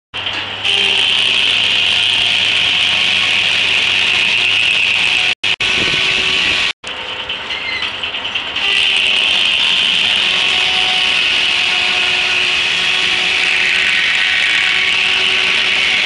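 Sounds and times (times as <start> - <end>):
sawmill blade whining through log: 0.6 - 6.7, 8.6 - 16.0.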